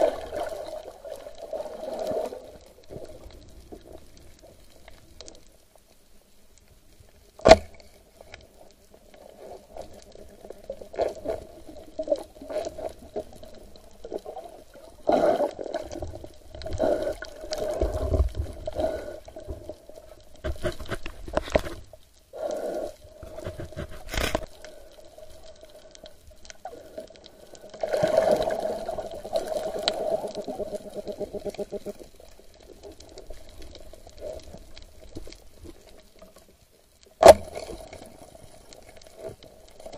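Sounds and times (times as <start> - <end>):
underwater sloshing and bubbling: 0.0 - 39.9.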